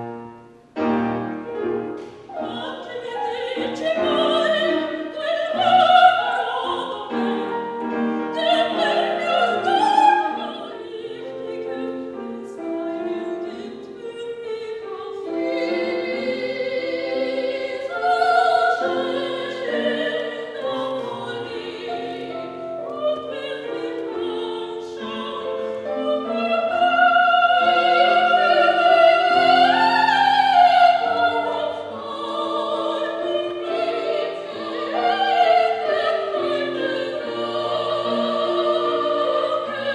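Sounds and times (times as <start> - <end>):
piano accompaniment: 0.0 - 39.9
woman singing opera: 2.4 - 39.9.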